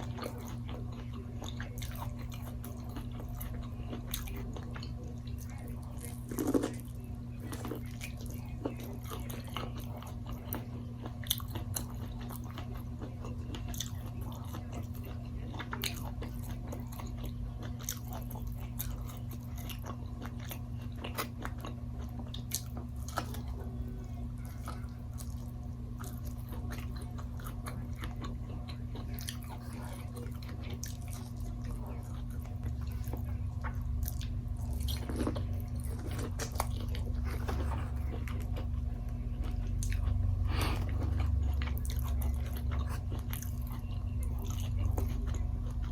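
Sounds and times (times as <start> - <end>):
chewing and crunching: 0.0 - 45.9
steady low hum: 0.0 - 45.9.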